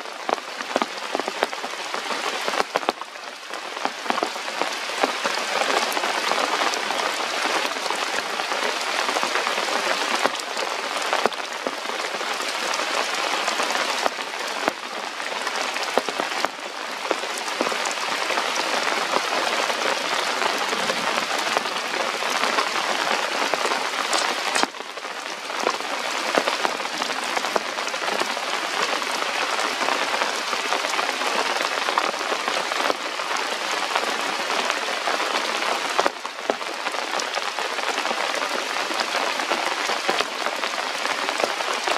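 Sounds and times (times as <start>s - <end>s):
rain on foliage and rock: 0.0s - 41.9s
raindrops ticking close by: 0.0s - 41.9s.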